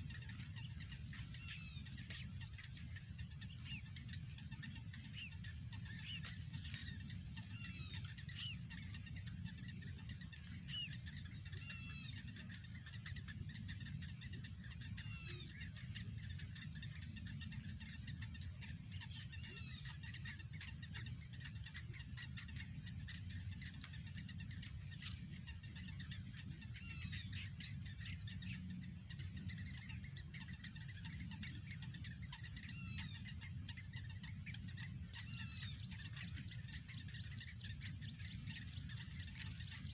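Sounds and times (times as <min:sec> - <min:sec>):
faint high-pitched hum: 0:00.0 - 0:39.9
low rumble: 0:00.0 - 0:39.9
small birds chirping: 0:00.0 - 0:39.9.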